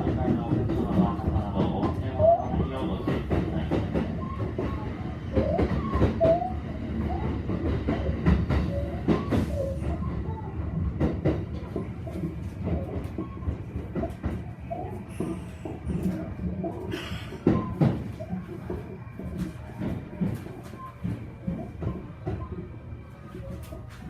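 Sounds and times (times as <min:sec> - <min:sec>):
train car rumbling: 0:00.0 - 0:24.0.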